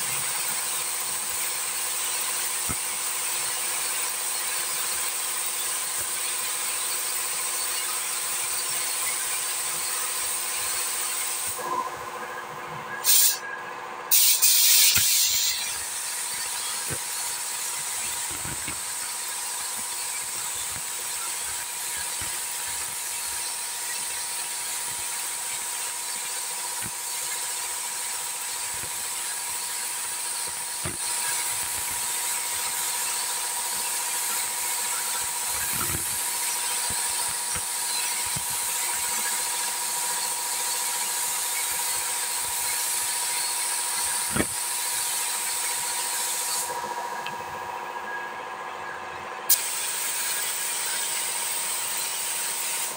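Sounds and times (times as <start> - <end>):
spray gun hissing: 0.0 - 11.6, 13.0 - 13.4, 14.1 - 46.7, 49.5 - 52.9.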